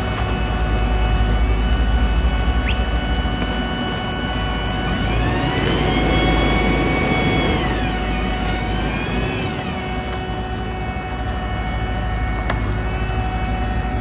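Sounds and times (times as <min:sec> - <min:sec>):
engine revving: 0:00.0 - 0:14.0
heavy machinery humming: 0:00.0 - 0:14.0.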